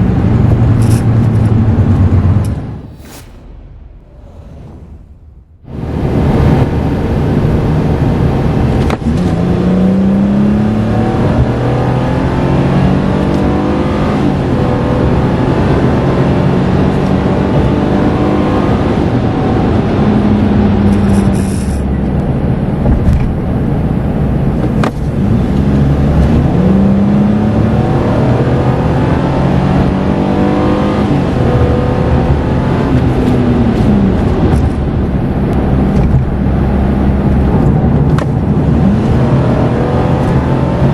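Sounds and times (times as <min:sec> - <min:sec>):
road and wind noise: 0:00.0 - 0:40.9
van engine under load: 0:03.5 - 0:30.2, 0:31.0 - 0:40.9.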